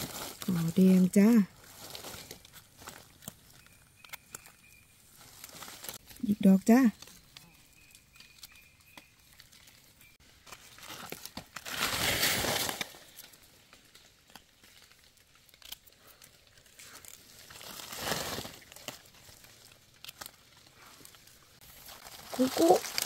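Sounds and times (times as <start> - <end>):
dry leaves rustling and crackling: 0.0 - 23.0.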